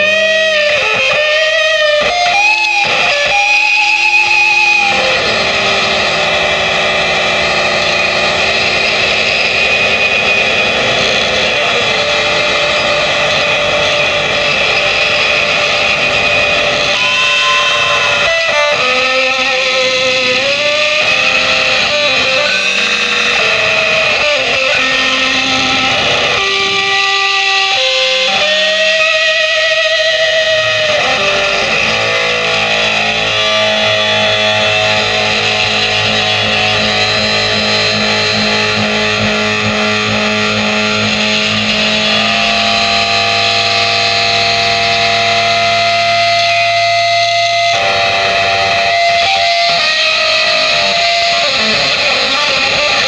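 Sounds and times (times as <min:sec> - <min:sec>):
distorted electric guitar: 0:00.0 - 0:53.0.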